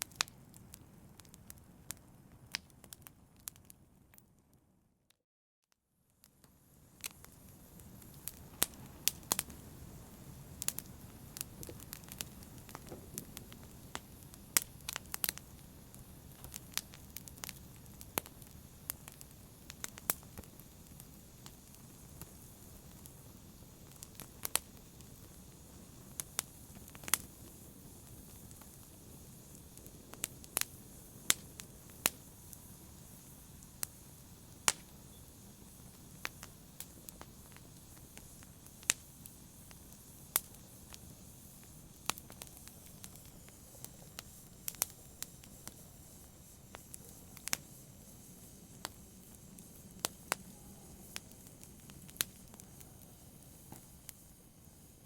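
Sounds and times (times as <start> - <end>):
pops and snaps of fire: 0.0 - 4.2, 6.2 - 54.9
fire crackling in a fireplace: 0.0 - 55.0.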